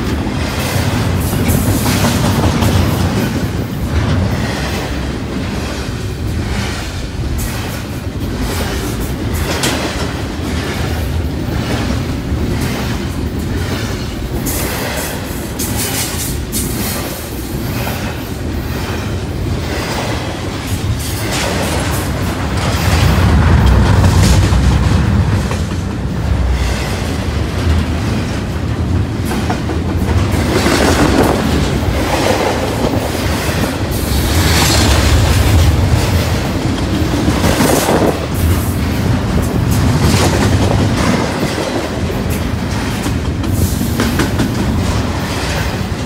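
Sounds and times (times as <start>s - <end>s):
train wheels rumbling on rail: 0.0s - 46.0s
wheels clacking over rail joints: 0.0s - 46.0s.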